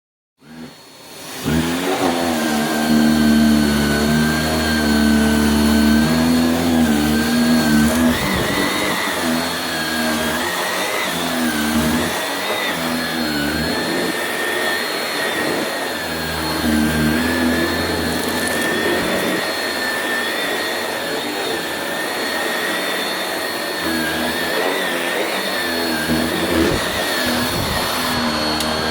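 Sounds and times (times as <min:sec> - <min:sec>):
vacuum cleaner motor whine: 0:00.4 - 0:28.9.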